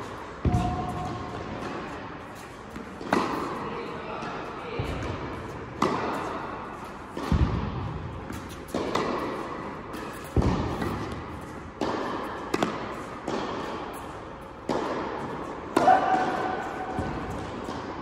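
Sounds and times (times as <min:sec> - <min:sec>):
tennis ball struck by racket: 0:00.4 - 0:03.6, 0:04.2 - 0:18.0.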